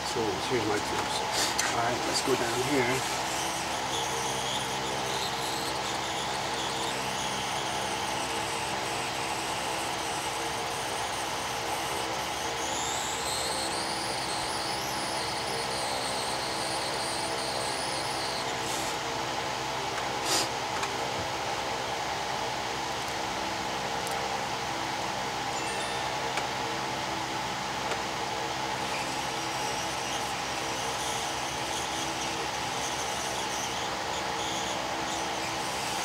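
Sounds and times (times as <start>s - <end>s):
high whine: 0.0s - 36.0s
hot-air rework station hissing: 0.0s - 36.0s.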